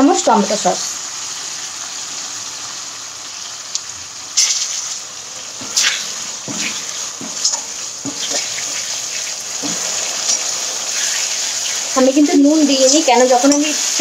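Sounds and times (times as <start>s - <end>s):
vegetables sizzling in sauce: 0.0s - 14.0s.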